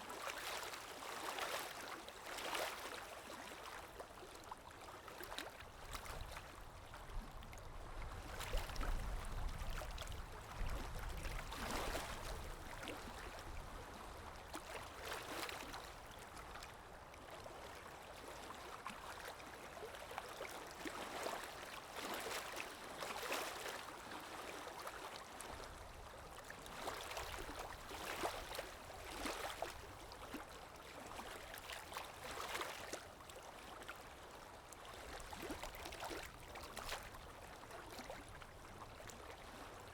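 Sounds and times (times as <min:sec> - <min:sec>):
river water lapping and rippling: 0:00.0 - 0:39.9.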